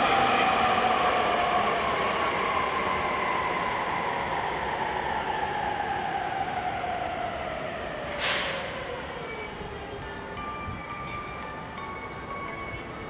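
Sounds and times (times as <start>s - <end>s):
electric train hum: 0.0s - 13.0s.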